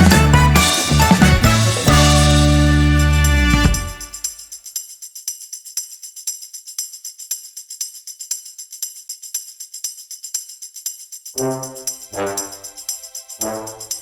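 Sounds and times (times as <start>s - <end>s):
jingling percussion over loudspeakers: 0.0s - 14.0s.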